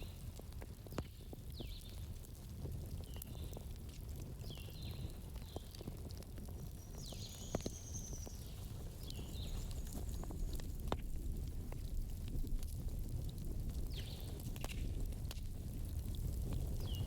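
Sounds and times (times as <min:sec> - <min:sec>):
campfire crackling: 0:00.1 - 0:17.0.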